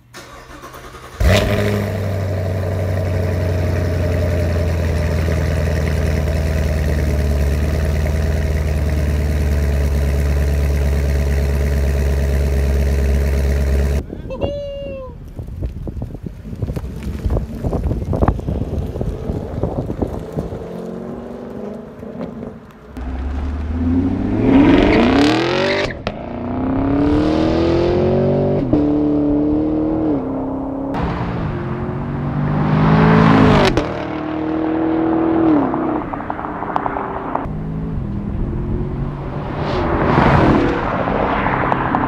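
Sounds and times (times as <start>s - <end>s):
car engine rumbling and accelerating: 0.0s - 14.0s, 15.2s - 42.0s.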